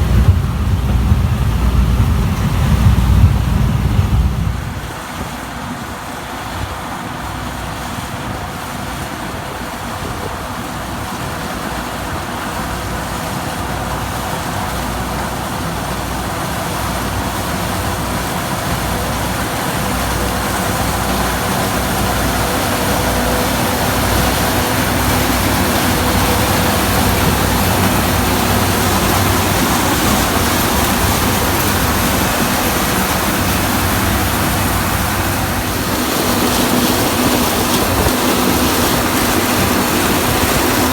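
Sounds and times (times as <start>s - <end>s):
combine harvester droning: 0.0s - 40.9s.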